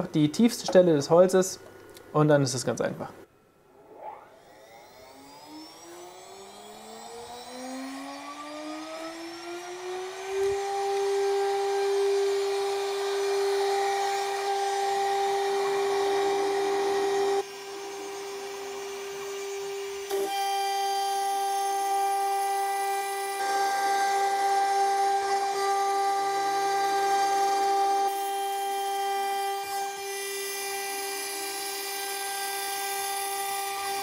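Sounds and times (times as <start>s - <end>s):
router spindle whine: 3.7s - 34.0s.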